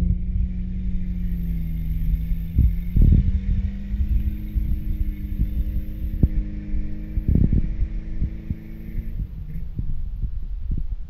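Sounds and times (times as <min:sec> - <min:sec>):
engine running under load: 0:00.0 - 0:11.0
low thumps: 0:00.0 - 0:11.0.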